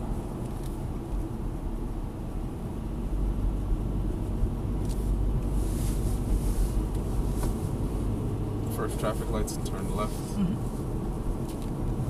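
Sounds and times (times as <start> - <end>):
car interior engine and road noise: 0.0 - 12.0.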